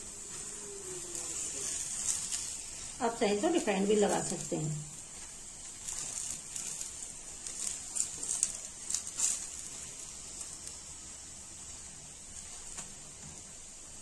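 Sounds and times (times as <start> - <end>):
ghee sizzling on a hot pan: 0.0 - 14.0.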